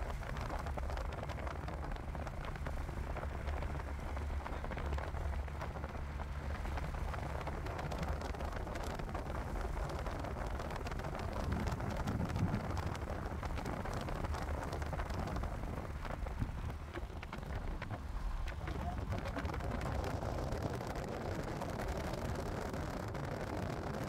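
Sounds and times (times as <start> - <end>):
low thunder rumble: 0.0 - 24.0
rain drops ticking: 0.0 - 24.0.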